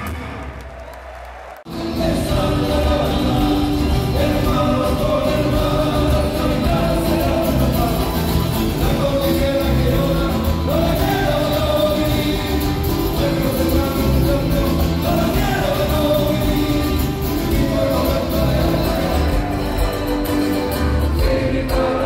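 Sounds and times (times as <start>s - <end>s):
bass guitar: 1.7s - 22.0s
drums keeping a steady beat: 1.7s - 22.0s
person singing: 1.7s - 22.0s
strummed acoustic guitars: 1.7s - 22.0s.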